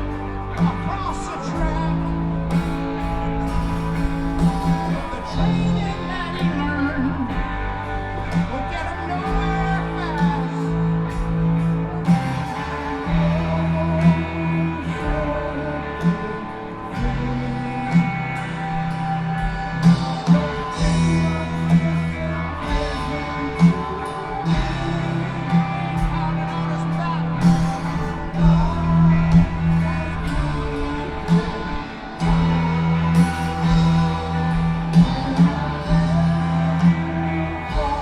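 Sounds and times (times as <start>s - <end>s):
bass guitar: 0.0s - 38.0s
distorted electric guitar: 0.0s - 38.0s.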